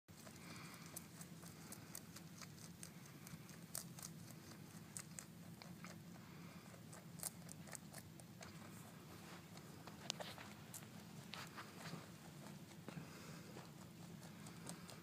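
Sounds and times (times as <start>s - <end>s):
low steady hum: 0.1s - 15.0s
rabbit chewing greens: 0.1s - 15.0s.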